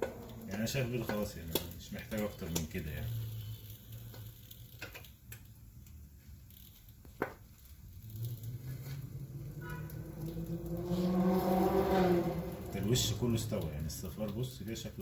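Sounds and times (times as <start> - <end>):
egg sizzling on grill: 0.0 - 15.0.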